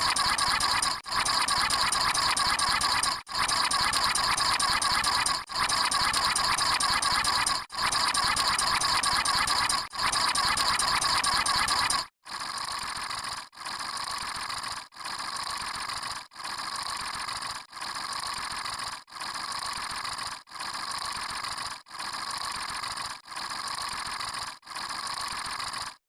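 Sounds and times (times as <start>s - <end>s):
noisy mechanical sound effect: 0.0s - 26.0s.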